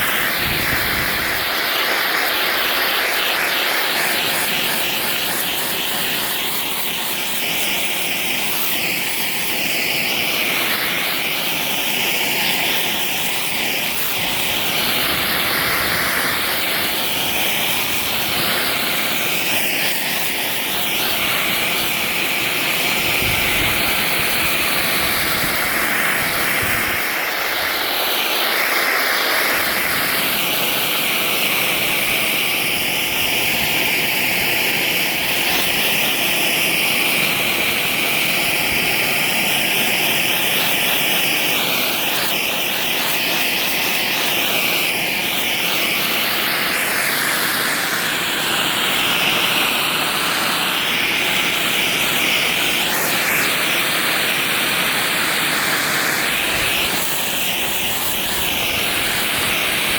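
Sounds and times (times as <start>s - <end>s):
pressure washer spray hissing: 0.0s - 59.9s.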